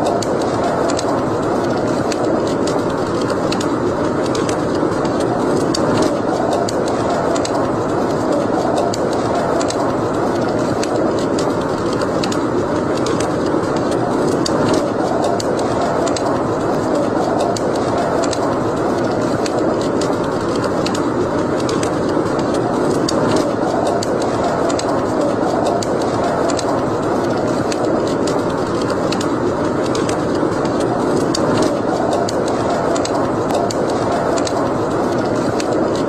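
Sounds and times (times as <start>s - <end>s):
burning wood crackling and popping: 0.0s - 36.0s
fire hissing: 0.0s - 36.0s.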